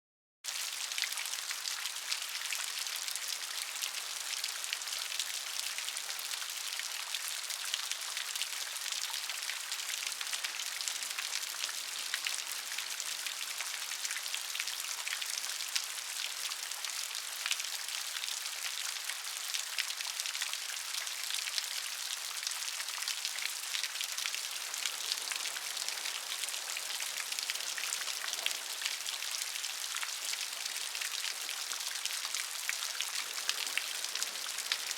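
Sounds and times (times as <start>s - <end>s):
steady rain: 0.5s - 34.9s.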